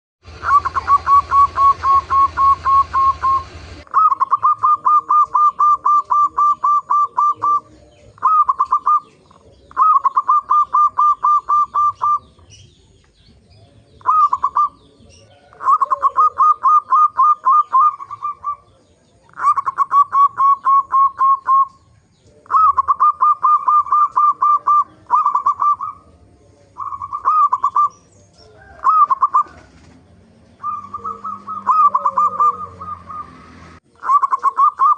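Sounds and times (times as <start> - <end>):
dove cooing: 0.3 - 34.9.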